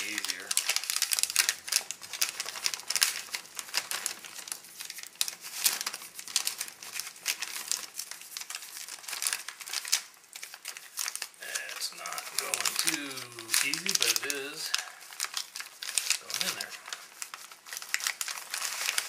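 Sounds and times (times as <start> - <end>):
plastic crinkling and crackling: 0.0 - 19.0.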